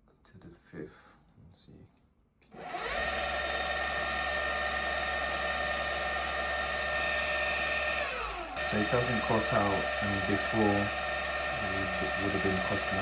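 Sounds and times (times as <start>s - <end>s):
electric motor whine: 2.5s - 13.0s.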